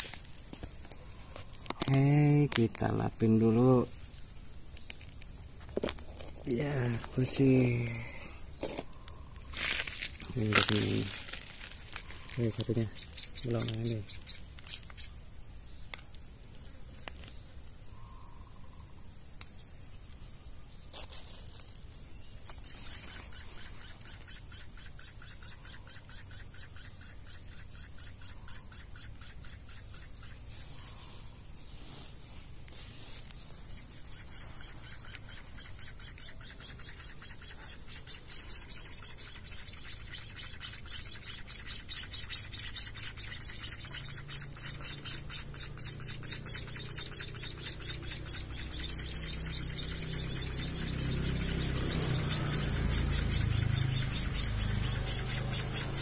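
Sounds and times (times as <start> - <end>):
nestlings chittering: 0.0 - 17.4, 20.8 - 56.0.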